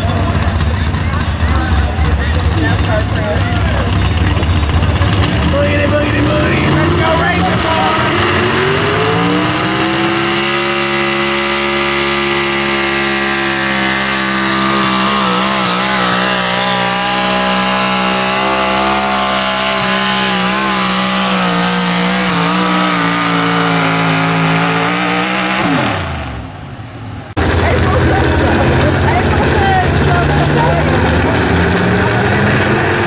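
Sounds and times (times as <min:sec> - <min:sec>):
truck engine at high revs: 0:00.0 - 0:33.0.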